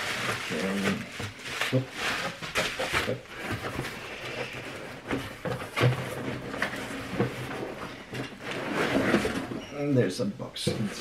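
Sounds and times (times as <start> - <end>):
packing material rustling: 0.0 - 9.6.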